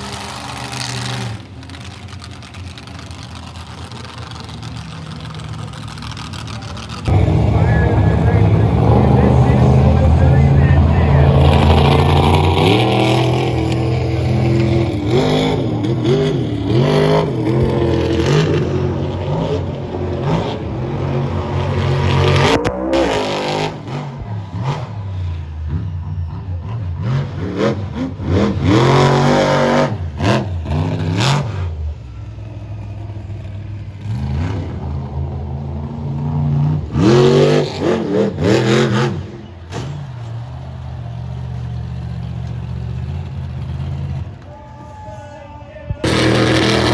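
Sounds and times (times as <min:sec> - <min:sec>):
truck engine revving: 0:00.0 - 0:44.9, 0:46.0 - 0:46.9.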